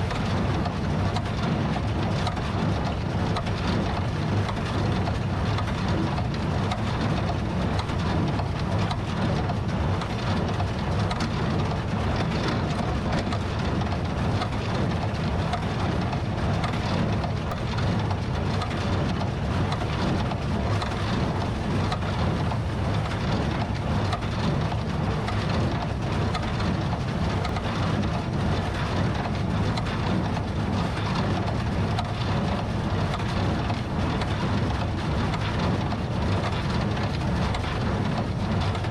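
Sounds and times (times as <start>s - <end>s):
baler machinery noise: 0.0s - 38.9s
tractor diesel engine under load: 0.0s - 38.9s.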